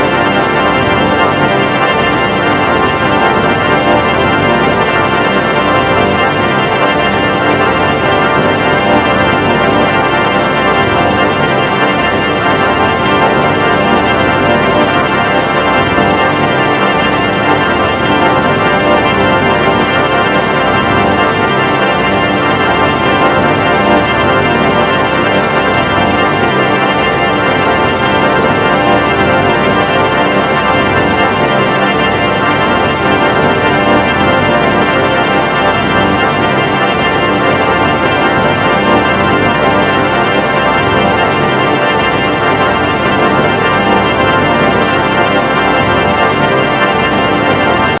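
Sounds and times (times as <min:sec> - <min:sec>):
electronic drone of held tones: 0:00.0 - 0:48.0.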